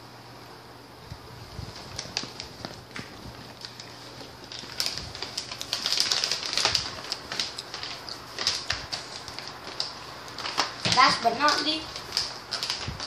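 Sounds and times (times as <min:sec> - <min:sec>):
plastic snack bag crinkling: 0:01.6 - 0:13.0.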